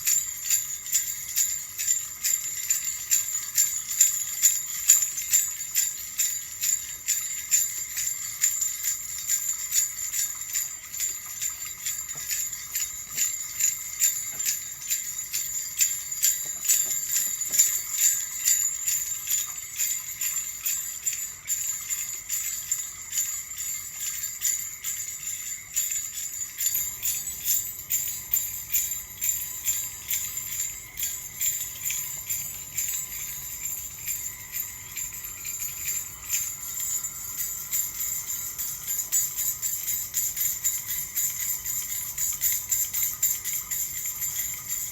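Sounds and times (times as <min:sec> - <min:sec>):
small jingle bells shaken: 0:00.0 - 0:44.9.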